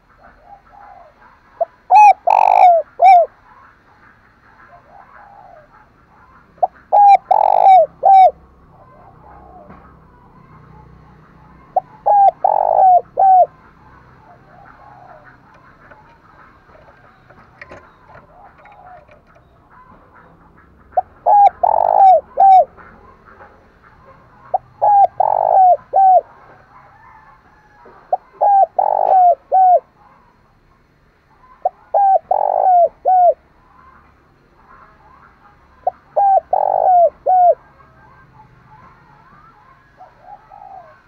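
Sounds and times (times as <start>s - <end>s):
dove cooing: 0.0s - 30.6s, 31.4s - 41.0s.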